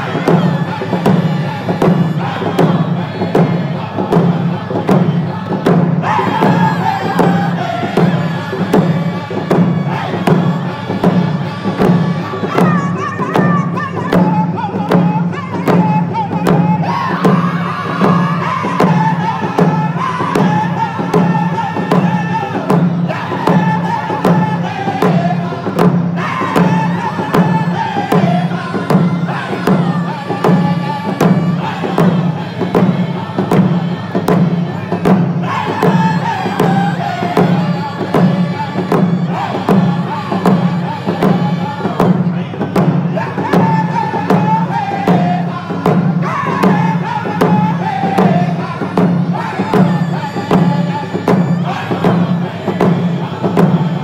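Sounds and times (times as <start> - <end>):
frame drums beating: 0.0 - 54.0
men singing together: 0.0 - 54.0.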